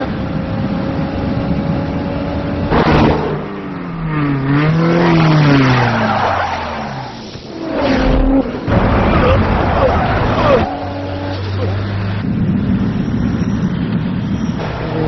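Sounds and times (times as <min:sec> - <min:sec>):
car engines revving: 0:00.0 - 0:15.0
tyres skidding: 0:00.0 - 0:15.0.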